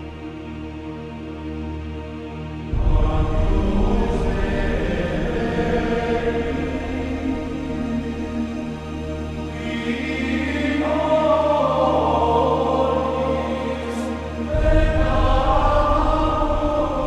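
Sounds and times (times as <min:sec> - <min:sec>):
choir-like chanted voices: 0:00.0 - 0:17.0
low drone: 0:02.7 - 0:17.0.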